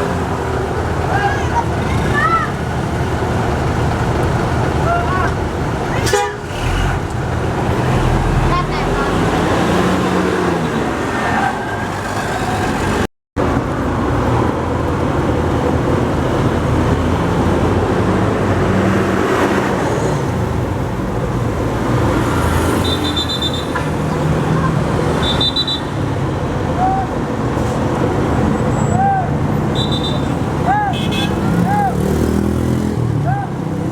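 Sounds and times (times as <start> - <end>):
heavy vehicles passing: 0.0 - 33.9.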